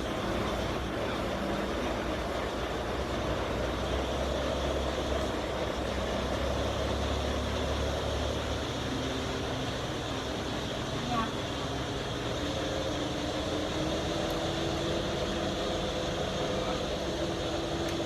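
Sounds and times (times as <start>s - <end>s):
large engine droning: 0.0s - 18.0s.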